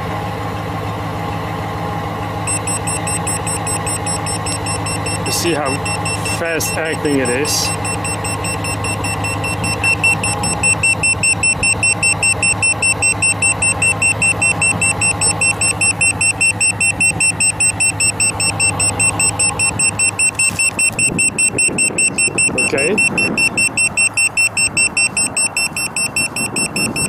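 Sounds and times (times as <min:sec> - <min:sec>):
vehicle engine idling: 0:00.0 - 0:27.0
high-pitched alarm beeping: 0:02.5 - 0:27.0.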